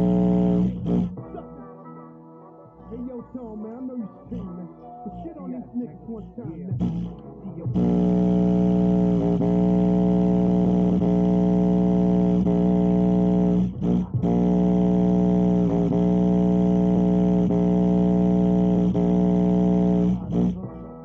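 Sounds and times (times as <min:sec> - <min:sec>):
rap instrumental through subwoofer: 0:00.0 - 0:02.0, 0:02.6 - 0:21.0.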